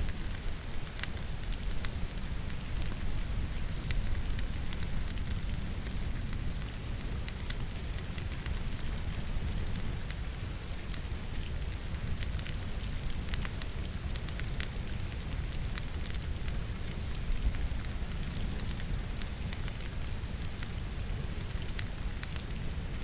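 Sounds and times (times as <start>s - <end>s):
rain falling: 0.0s - 23.0s
wood fire crackling and popping: 0.0s - 23.0s.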